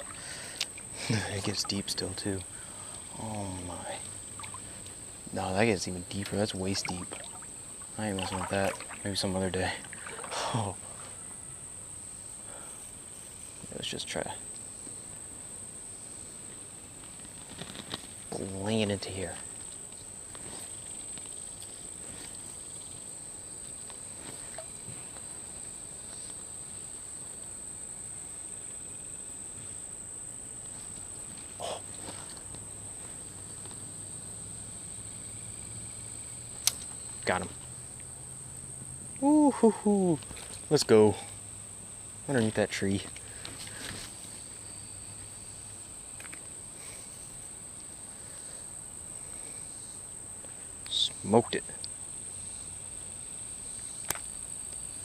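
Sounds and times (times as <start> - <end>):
high-pitched insect trill: 0.0 - 55.0.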